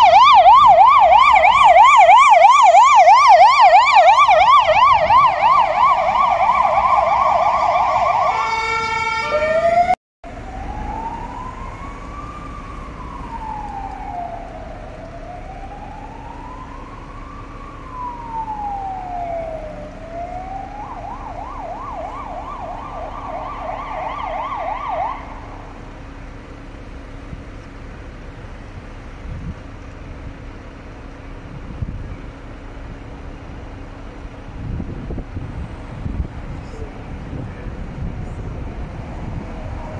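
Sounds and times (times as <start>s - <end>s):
ambulance siren warbling: 0.0s - 27.4s, 33.2s - 39.9s
faint emergency siren wailing: 0.0s - 39.9s
traffic noise: 0.0s - 39.9s.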